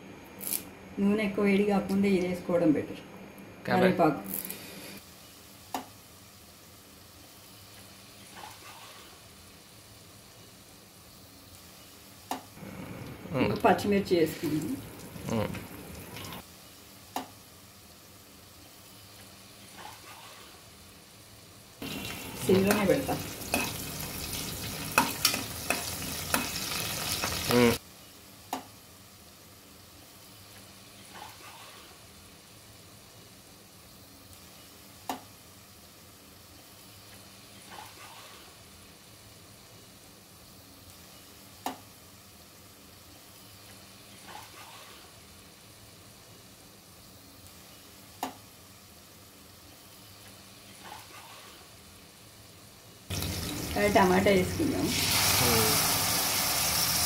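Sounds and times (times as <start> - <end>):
food sizzling in hot oil: 4.3 - 12.9, 13.5 - 57.0.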